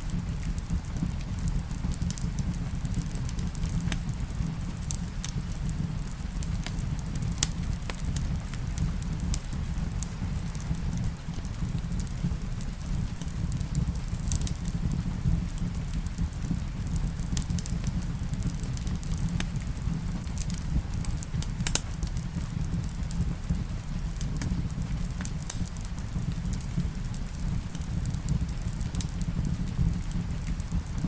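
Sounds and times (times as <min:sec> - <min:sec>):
rain falling: 0:00.0 - 0:31.0
wood fire crackling: 0:00.0 - 0:31.0.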